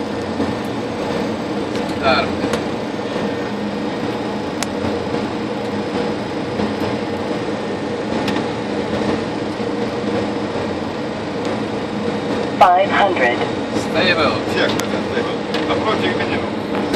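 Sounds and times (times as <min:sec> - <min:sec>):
engine and air-conditioning hum: 0:00.0 - 0:16.9.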